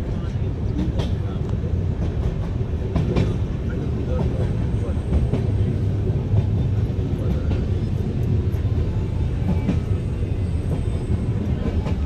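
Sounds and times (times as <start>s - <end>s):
train rumbling: 0.0s - 12.0s
wheels clicking on rail: 0.0s - 12.0s.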